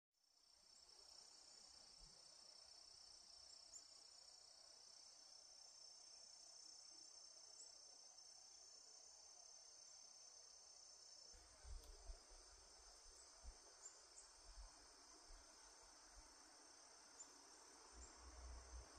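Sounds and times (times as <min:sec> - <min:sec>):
insect chorus trilling: 0:00.7 - 0:18.9.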